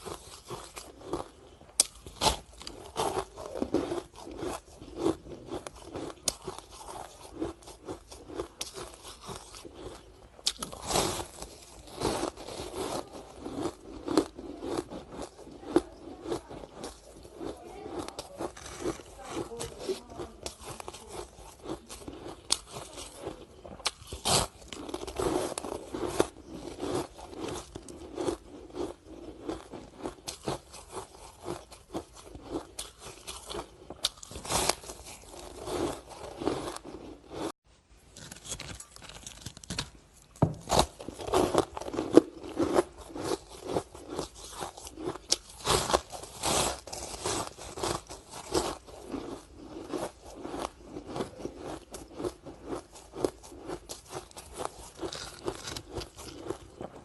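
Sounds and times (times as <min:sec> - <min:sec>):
ice sticks being chewed: 0:00.0 - 0:57.0.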